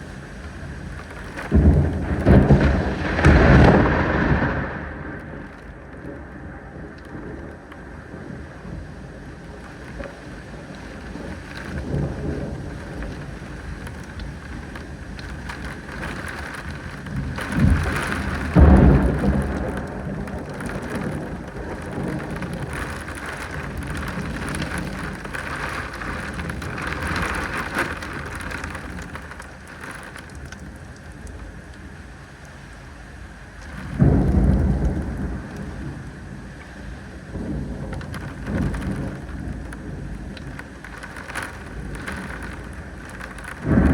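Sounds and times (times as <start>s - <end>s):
thunder claps and rumbling: 0.0s - 32.1s, 33.1s - 43.9s
rain falling: 0.0s - 43.9s.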